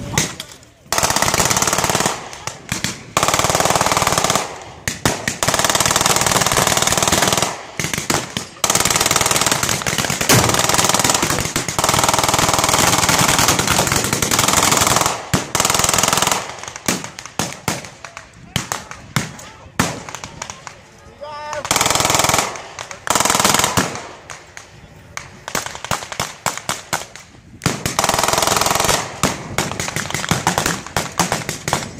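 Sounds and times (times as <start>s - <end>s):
automatic gunfire bursts: 0.9s - 17.9s, 21.6s - 24.4s, 25.5s - 31.9s.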